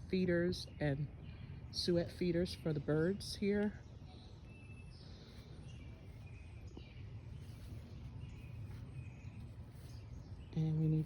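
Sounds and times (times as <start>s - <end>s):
birds chirping faintly: 0.0s - 11.0s
low outdoor rumble: 0.0s - 11.0s.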